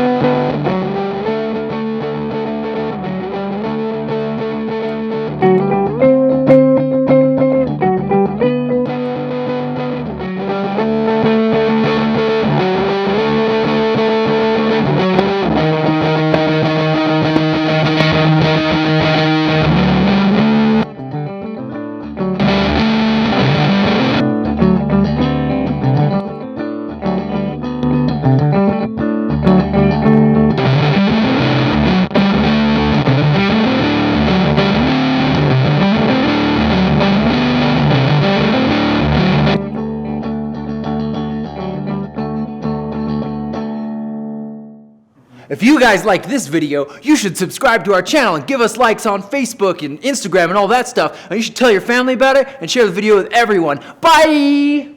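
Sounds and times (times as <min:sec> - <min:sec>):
distorted electric guitar riffs: 0:00.0 - 0:49.6.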